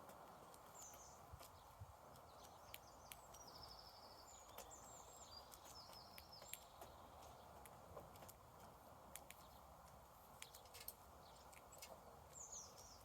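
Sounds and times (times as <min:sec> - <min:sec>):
low background hiss: 0:00.0 - 0:13.0
small birds chirping: 0:00.0 - 0:13.0.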